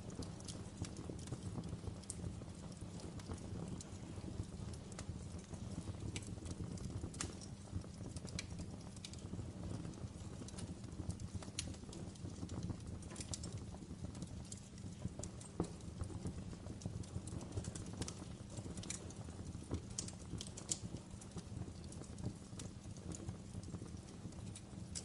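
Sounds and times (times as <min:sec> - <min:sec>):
fire popping and snapping: 0:00.0 - 0:25.0
low rumble of flames: 0:00.0 - 0:25.0.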